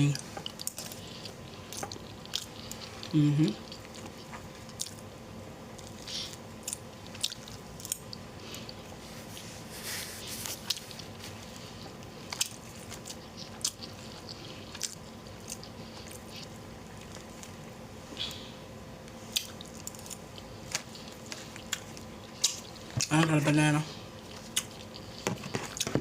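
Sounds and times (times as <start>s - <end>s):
faint steady hum: 0.0s - 26.0s
chewing and biting food: 0.4s - 5.1s, 5.7s - 9.4s, 10.4s - 18.4s, 19.3s - 23.2s, 24.1s - 26.0s.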